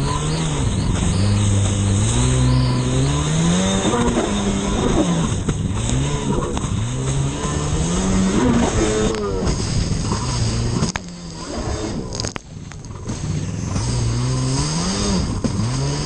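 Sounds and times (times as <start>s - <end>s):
jet ski engine revving: 0.0s - 16.0s
water slaps and spray: 0.0s - 16.0s.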